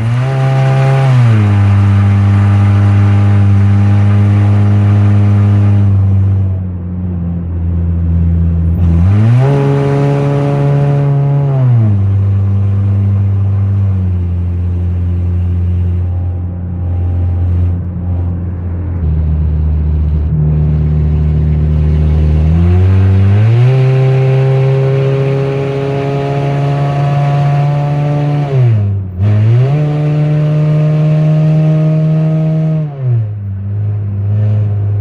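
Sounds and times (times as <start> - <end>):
loud car engine revving: 0.0 - 35.0.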